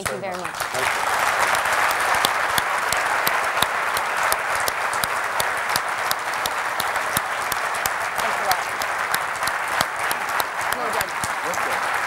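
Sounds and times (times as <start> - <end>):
audience applauding: 0.0 - 12.0
sharp single claps: 0.0 - 12.0.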